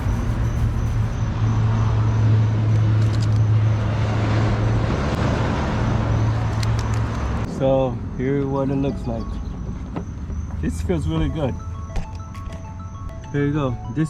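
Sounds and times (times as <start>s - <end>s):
road traffic rushing: 0.0s - 13.0s
low vehicle hum: 0.0s - 13.2s.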